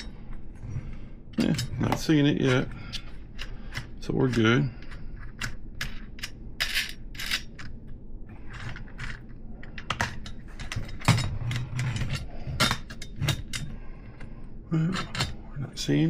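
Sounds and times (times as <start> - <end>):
metallic clicks and scrapes: 1.4 - 14.3.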